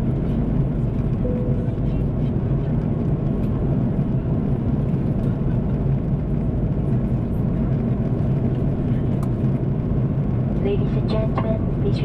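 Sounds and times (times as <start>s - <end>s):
aircraft cabin engine roar: 0.0s - 12.0s.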